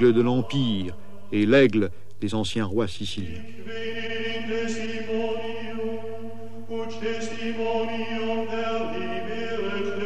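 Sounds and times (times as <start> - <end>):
chanting voices: 0.0 - 10.0.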